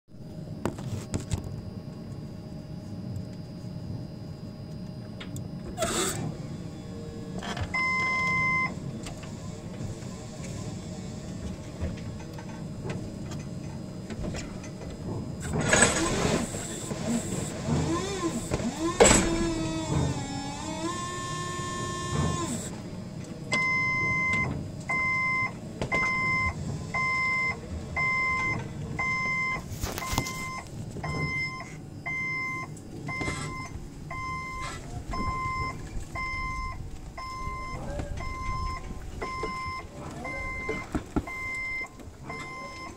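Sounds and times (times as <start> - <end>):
rising machine whine: 0.1 - 40.9
forklift warning beeper: 2.0 - 12.3, 15.4 - 22.8, 23.5 - 42.9.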